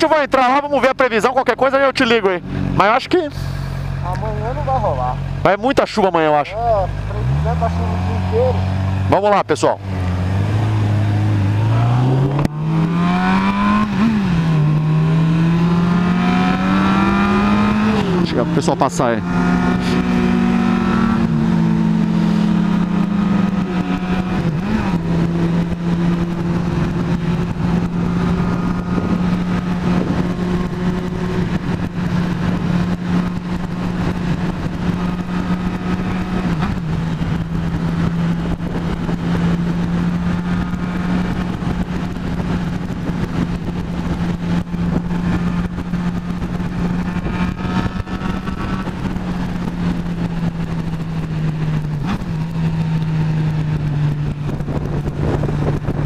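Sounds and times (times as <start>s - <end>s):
motorcycle engine cruising: 0.0s - 56.0s
wind noise on microphone: 9.9s - 18.6s, 19.2s - 56.0s.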